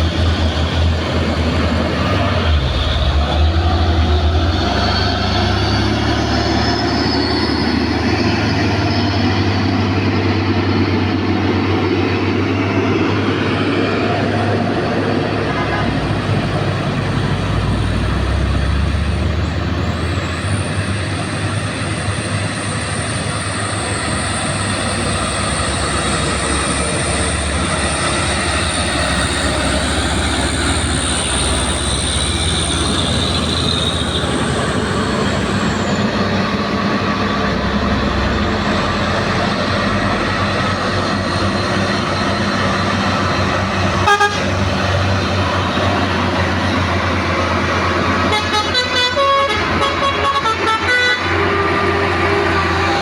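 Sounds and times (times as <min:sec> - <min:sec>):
truck engine labouring: 0:00.0 - 0:53.0.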